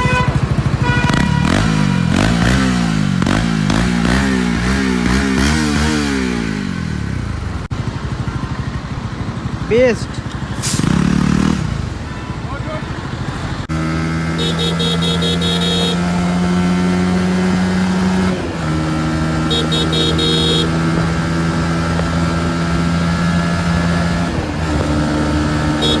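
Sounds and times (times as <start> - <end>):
motorcycle engine running at high revs: 0.0 - 26.0.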